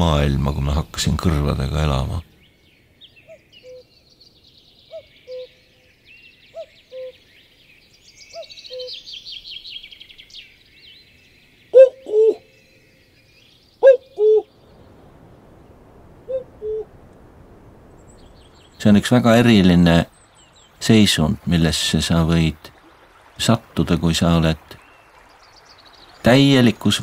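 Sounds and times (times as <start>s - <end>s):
songbird twittering: 2.2s - 15.0s, 17.7s - 27.0s.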